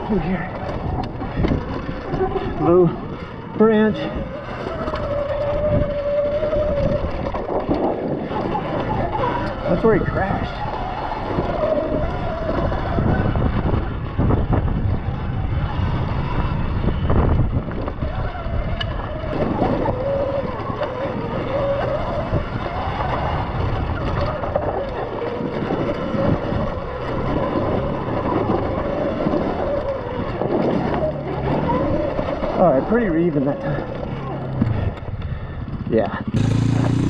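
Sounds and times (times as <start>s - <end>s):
electric motorbike whining: 0.0s - 37.0s
wind buffeting microphone: 0.0s - 37.0s.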